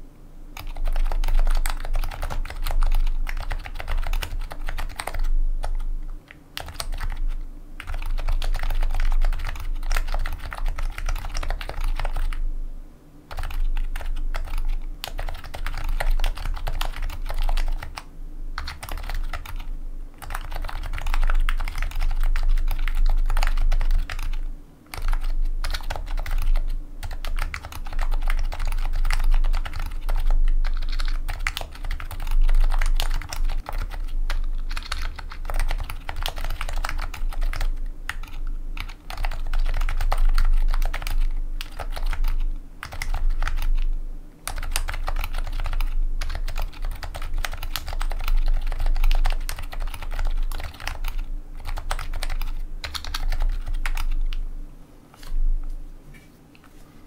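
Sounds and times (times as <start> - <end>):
keyboard typing: 0.6 - 12.4, 13.3 - 54.4.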